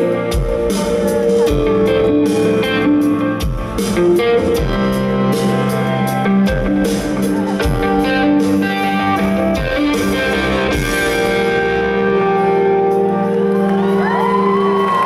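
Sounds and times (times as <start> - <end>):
drums: 0.0 - 15.0
electric guitar: 0.0 - 15.0
rock band playing: 0.0 - 15.0.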